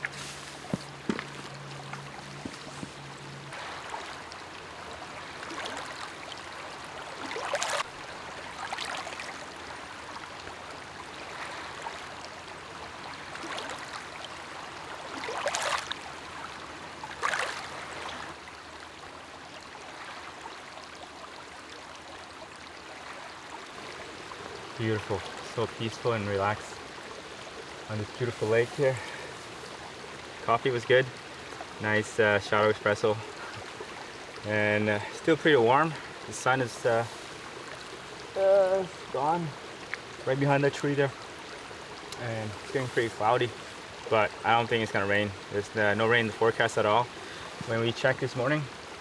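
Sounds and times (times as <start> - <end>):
lake waves lapping at shore: 0.0 - 49.0.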